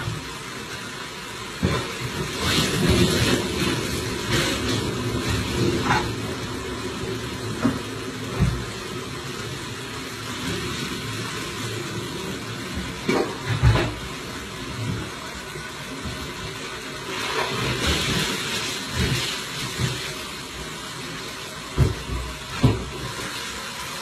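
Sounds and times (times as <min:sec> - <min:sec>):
water running and splashing: 0:00.0 - 0:24.0.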